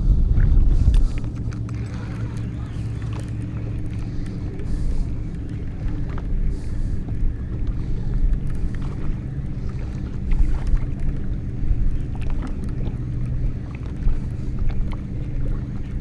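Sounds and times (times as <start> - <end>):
boat engine rumble: 0.0 - 16.0
waves lapping against hull: 0.0 - 16.0
wind: 0.0 - 16.0
small knocks and splashes: 0.8 - 6.4, 7.0 - 16.0.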